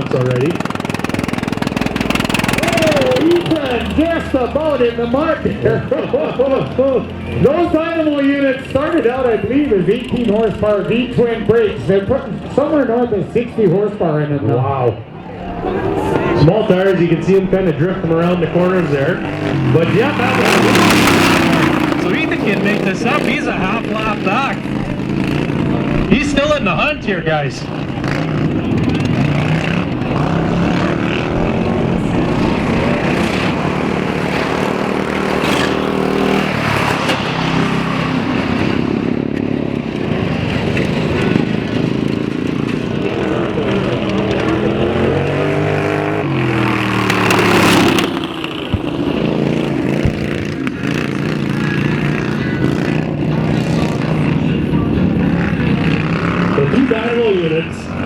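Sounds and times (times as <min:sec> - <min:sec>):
racing lawn mower engines: 0:00.0 - 0:58.0.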